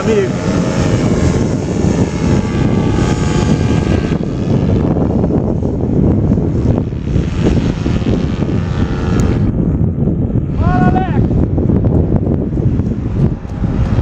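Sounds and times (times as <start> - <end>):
paramotor engine droning: 0.0 - 14.0.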